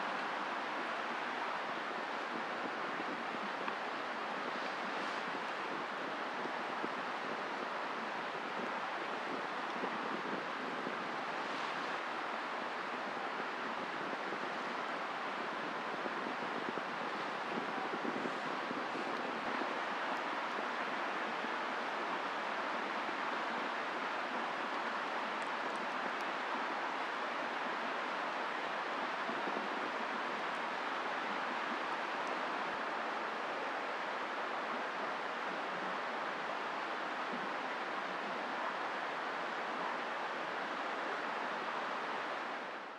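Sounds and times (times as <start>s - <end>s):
light rain falling: 0.0s - 42.9s
campfire crackles: 1.8s - 41.1s.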